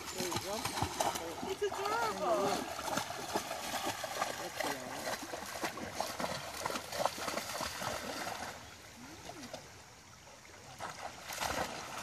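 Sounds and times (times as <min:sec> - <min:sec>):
dogs splashing in water: 0:00.0 - 0:09.8, 0:10.5 - 0:12.0
stream running: 0:00.0 - 0:12.0.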